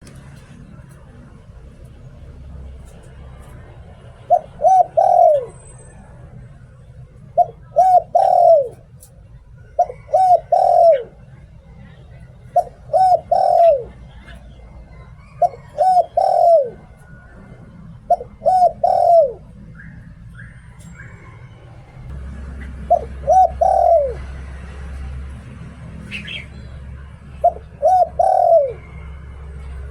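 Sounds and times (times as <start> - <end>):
dove cooing: 2.8 - 6.1, 7.1 - 11.3, 12.4 - 25.3, 25.9 - 29.9.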